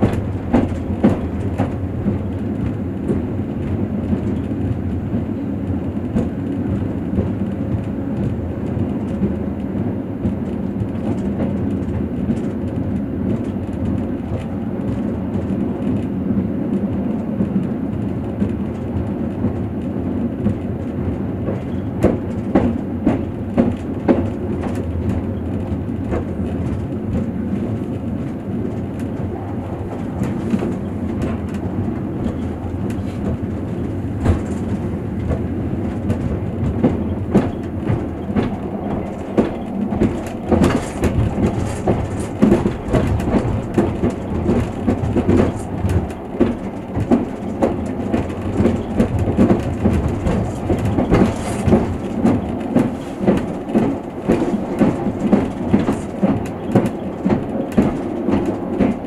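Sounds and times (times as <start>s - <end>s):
wheel clacks over rail joints: 0.0s - 16.1s, 16.8s - 59.0s
train low rumble: 0.0s - 59.0s.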